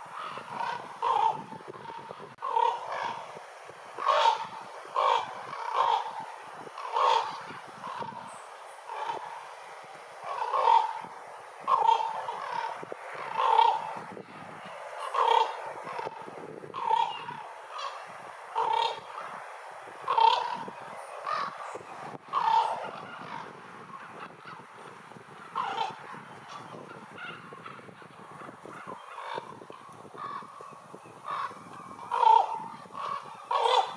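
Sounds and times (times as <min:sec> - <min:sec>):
ravens calling: 0:00.0 - 0:33.9.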